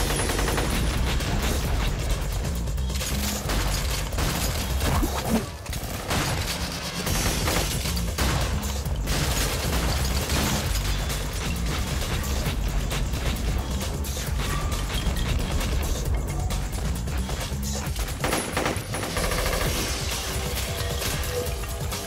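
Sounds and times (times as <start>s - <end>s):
debris scattering: 0.0s - 22.0s
rapid automatic gunfire: 0.0s - 22.0s
electronic music with heavy bass beat: 0.2s - 5.6s, 6.4s - 22.0s.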